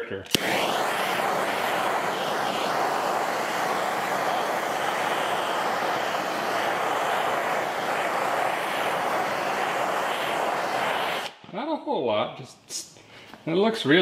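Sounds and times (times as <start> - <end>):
gas torch hissing: 0.0 - 11.4.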